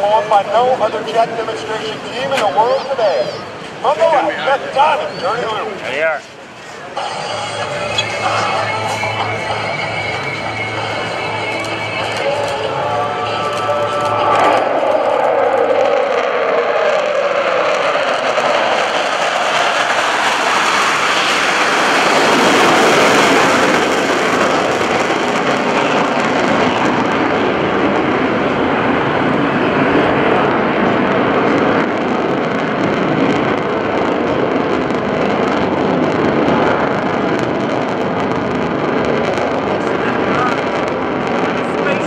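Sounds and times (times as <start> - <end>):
jet engines flying overhead: 0.0 - 42.0.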